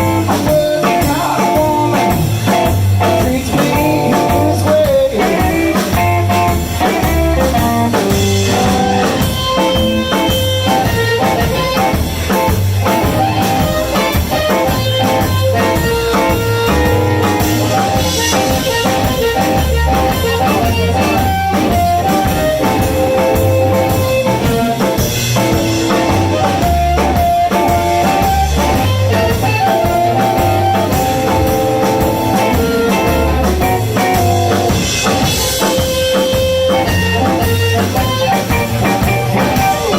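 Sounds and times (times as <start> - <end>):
bass: 0.0 - 39.9
drum kit: 0.0 - 39.9
electric guitar lines: 0.0 - 39.9.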